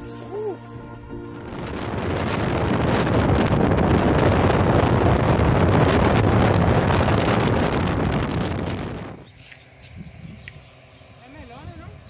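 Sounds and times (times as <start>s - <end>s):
vehicle road noise: 0.0s - 12.0s
wind buffeting microphone: 1.2s - 12.0s.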